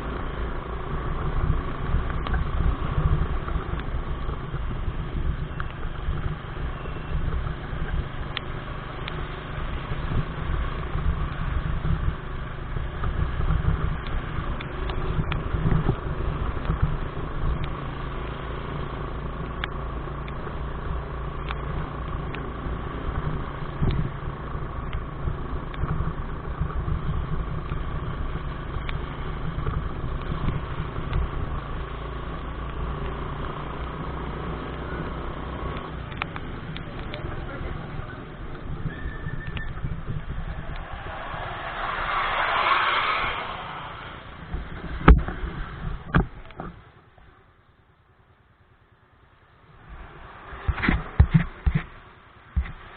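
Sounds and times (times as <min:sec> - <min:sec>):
wind rumble on microphone: 0:00.0 - 0:34.4, 0:35.9 - 0:46.8, 0:49.7 - 0:52.9
motorcycle running: 0:00.0 - 0:52.9.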